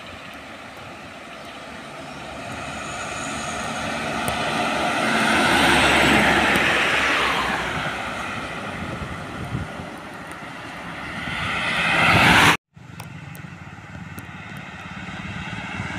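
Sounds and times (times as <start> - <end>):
truck driving past: 1.1 - 15.9.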